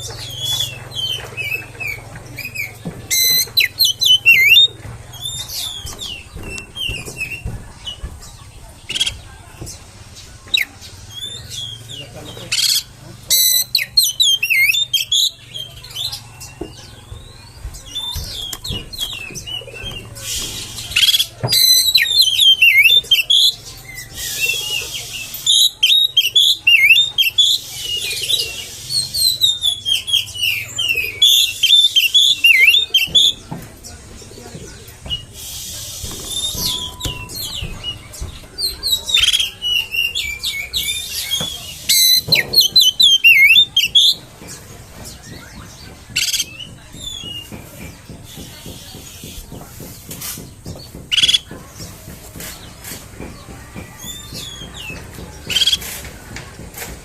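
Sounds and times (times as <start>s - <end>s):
songbird singing whistles: 0.0s - 8.0s, 10.5s - 33.6s, 35.0s - 50.5s, 51.1s - 56.0s
harsh rasping bird notes: 0.0s - 57.0s.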